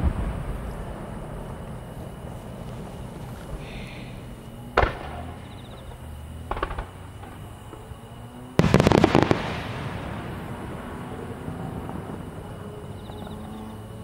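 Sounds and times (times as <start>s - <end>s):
firework shells booming: 0.0s - 13.8s.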